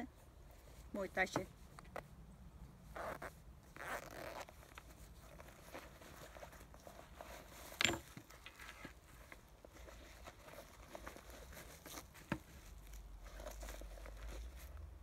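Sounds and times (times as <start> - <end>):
fabric rustling: 2.9 - 15.0.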